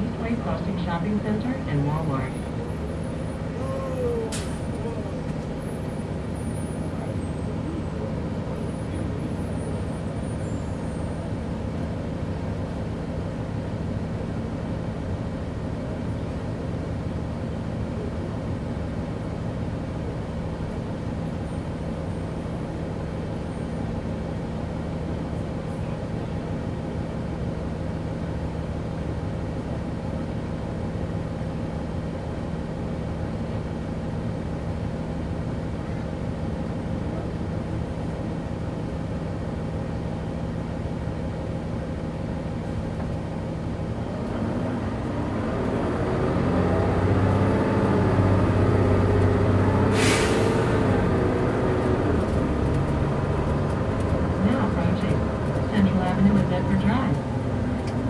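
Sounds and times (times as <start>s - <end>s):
bus diesel engine humming: 0.0s - 58.0s.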